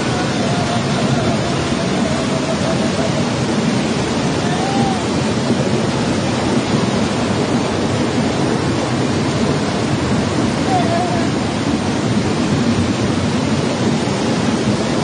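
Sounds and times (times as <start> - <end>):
floodwater rushing: 0.0 - 15.0
torrential rain: 0.0 - 15.0.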